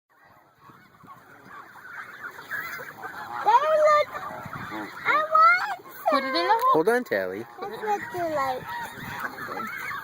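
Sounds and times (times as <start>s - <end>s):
geese honking and gabbling: 0.1s - 10.0s.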